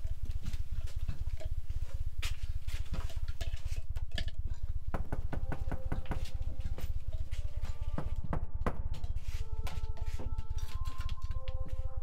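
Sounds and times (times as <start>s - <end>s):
low mechanical throb: 0.0s - 12.0s.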